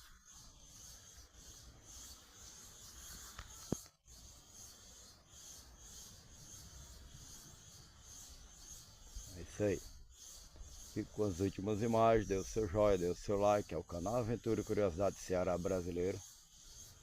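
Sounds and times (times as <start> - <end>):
cicadas buzzing: 0.0 - 17.0.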